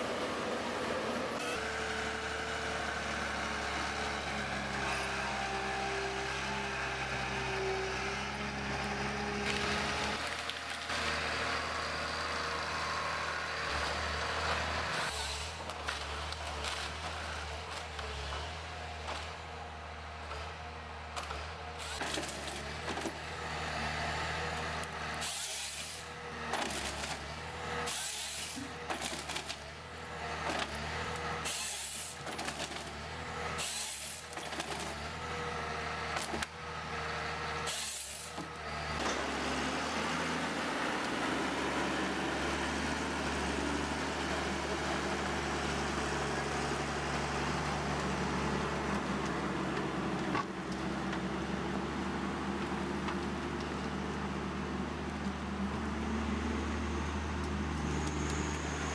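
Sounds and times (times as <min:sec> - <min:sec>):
heavy machine engine running: 0:00.0 - 0:58.9.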